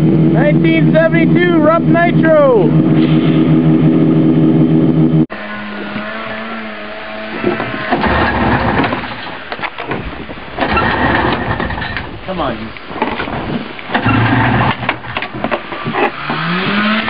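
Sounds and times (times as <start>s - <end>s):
snowmobile engine idling: 0.0s - 17.0s
snowmobile engine riding: 0.0s - 17.0s.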